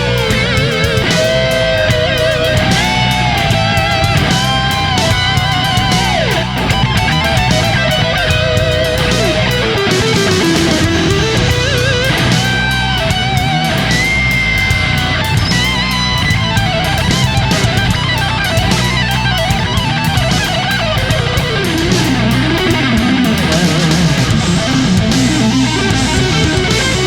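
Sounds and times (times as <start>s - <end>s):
electric guitar rock music: 0.0s - 27.0s.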